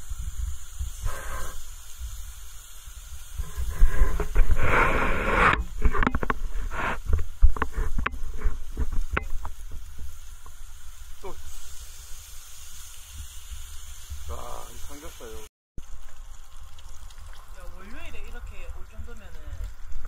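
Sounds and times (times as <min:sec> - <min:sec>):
crackles and pops: 0:00.0 - 0:15.1, 0:15.8 - 0:20.0
pork sizzling on a grill pan: 0:00.0 - 0:20.0.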